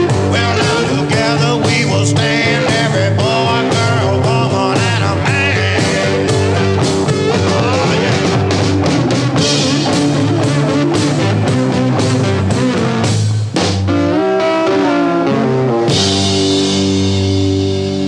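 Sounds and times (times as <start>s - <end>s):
rock music with guitar and drums: 0.0s - 18.0s.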